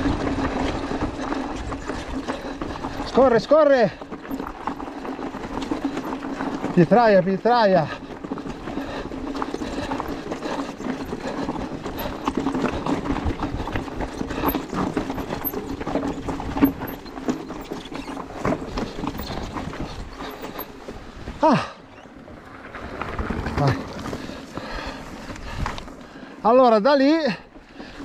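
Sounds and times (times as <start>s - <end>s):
bike rattling and clicking: 0.0s - 28.0s
tyres crunching over stones: 0.0s - 28.0s.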